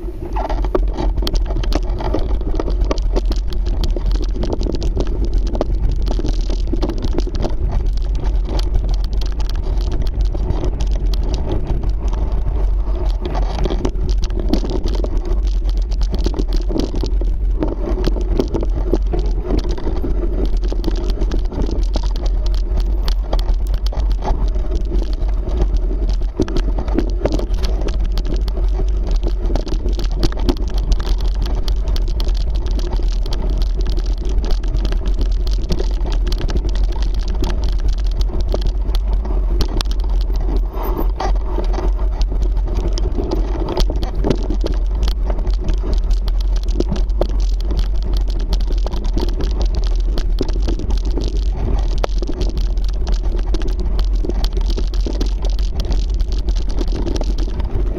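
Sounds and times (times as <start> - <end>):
bike rattling over stones: 0.0 - 57.9
wind and tyre rumble: 0.0 - 57.9.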